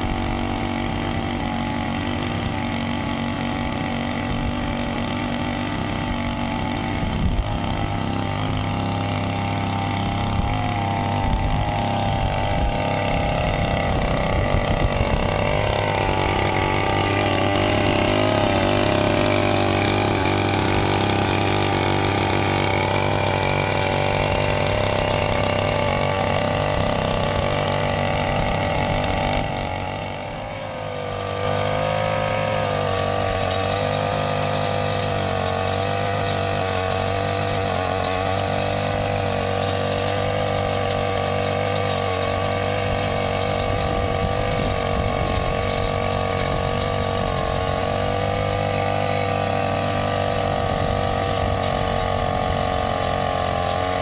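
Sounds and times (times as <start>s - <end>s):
small brush-cutter engine running: 0.0s - 54.0s.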